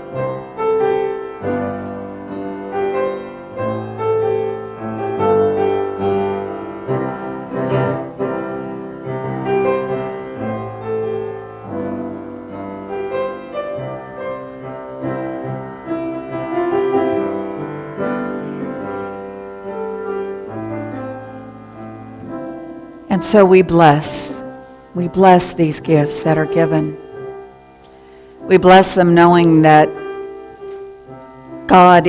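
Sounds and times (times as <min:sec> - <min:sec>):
slow piano chords with melody: 0:00.0 - 0:31.7.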